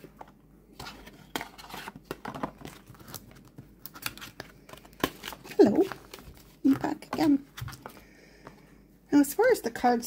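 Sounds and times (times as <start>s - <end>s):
cards rustling and scraping: 0.0s - 8.6s.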